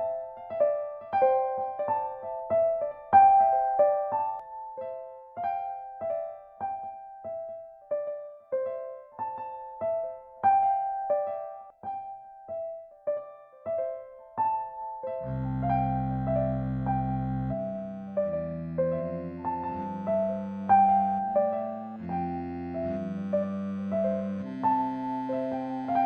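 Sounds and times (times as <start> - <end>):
slow piano melody on keyboard: 0.0 - 26.0.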